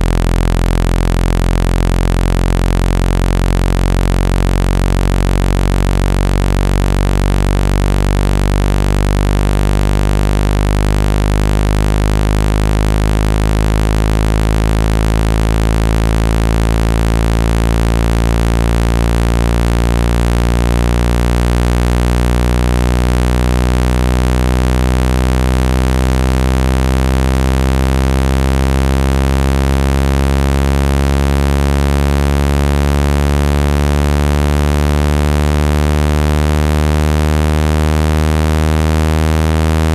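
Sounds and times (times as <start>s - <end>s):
low buzzing tone from phone speaker: 0.0s - 39.9s.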